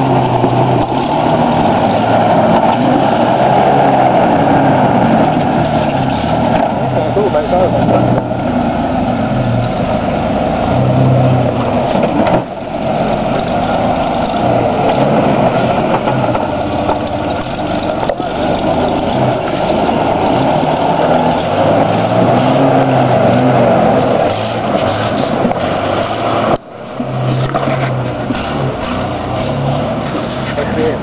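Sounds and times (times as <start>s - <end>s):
vehicle engine revving under load: 0.0s - 31.0s.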